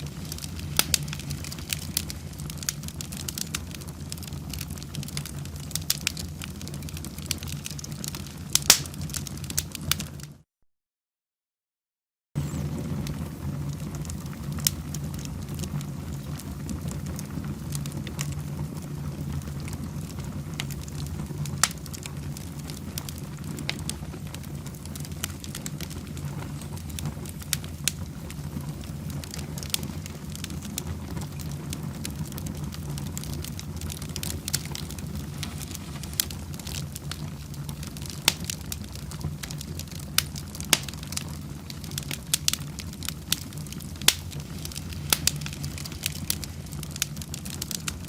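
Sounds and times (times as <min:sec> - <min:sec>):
fireplace fire crackling: 0:00.0 - 0:10.4, 0:12.4 - 0:48.0.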